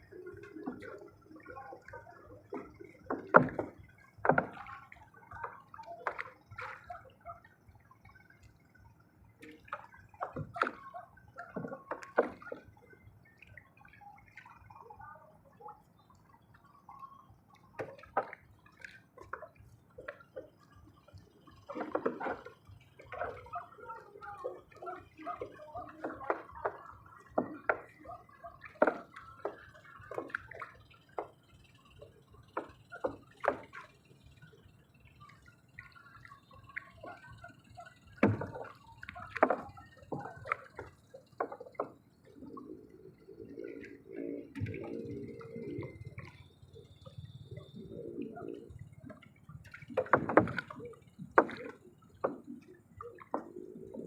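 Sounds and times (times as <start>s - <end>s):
water splashing and dripping: 0.0s - 54.0s.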